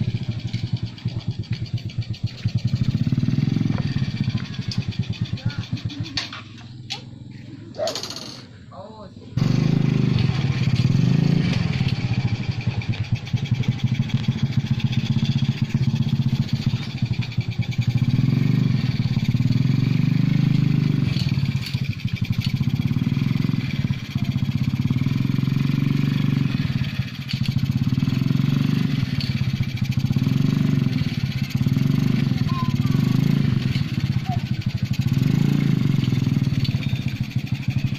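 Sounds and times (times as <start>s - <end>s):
small motorcycle engine running: 0.0s - 37.9s.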